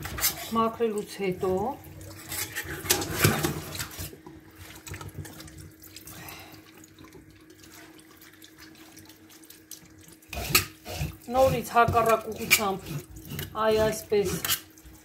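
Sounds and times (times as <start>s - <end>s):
fish rinsed by hand splashing: 0.0s - 15.0s
tap water running into sink: 0.8s - 15.0s.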